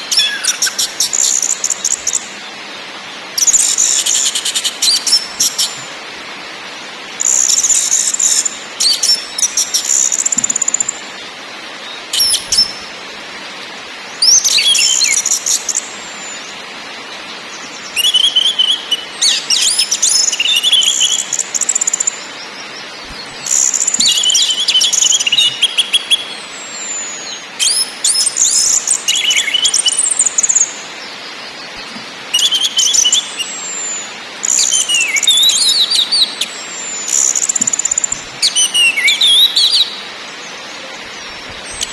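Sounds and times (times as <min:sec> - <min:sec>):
faint steady hiss: 0:00.0 - 0:41.9.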